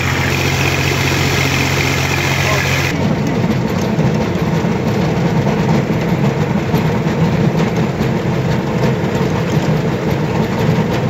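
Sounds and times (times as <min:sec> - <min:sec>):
rotavator spinning: 0:00.0 - 0:11.0
tractor diesel engine running: 0:00.0 - 0:11.0.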